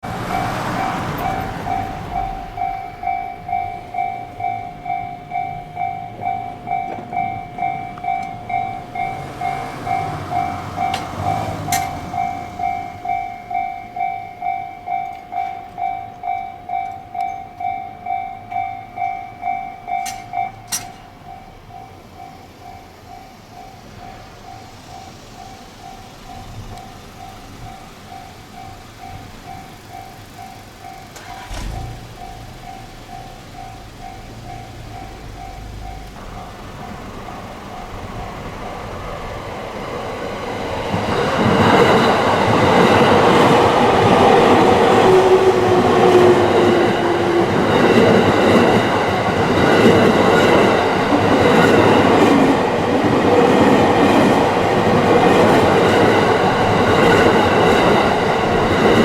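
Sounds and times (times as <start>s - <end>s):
level crossing warning bell ringing: 0.0s - 59.0s
train passing: 0.0s - 59.0s.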